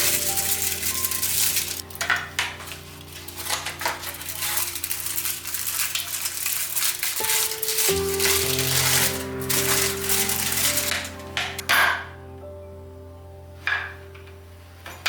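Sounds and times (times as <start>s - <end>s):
background music with held tones: 0.0s - 15.0s.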